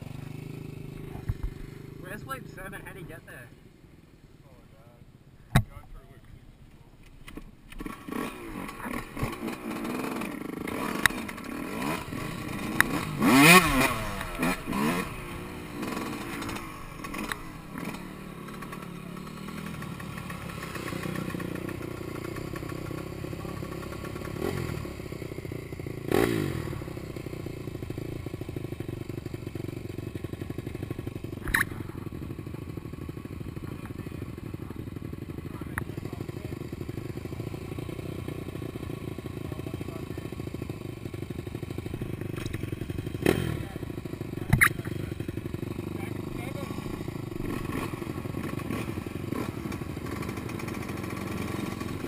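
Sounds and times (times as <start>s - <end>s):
dirt bike engine revving: 0.0s - 3.6s, 7.7s - 52.0s.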